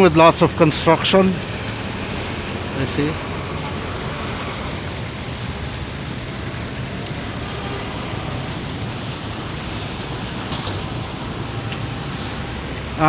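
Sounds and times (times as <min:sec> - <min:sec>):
traffic rushing: 0:00.0 - 0:13.0.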